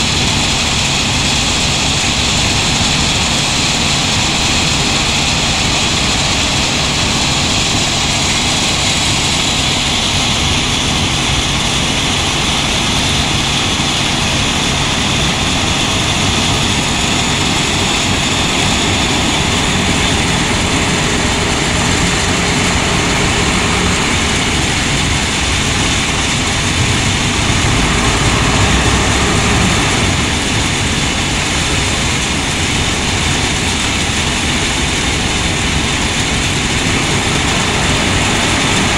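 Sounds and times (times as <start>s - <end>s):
drone of heavy machinery: 0.0s - 38.9s
loader diesel engine running: 0.0s - 38.9s.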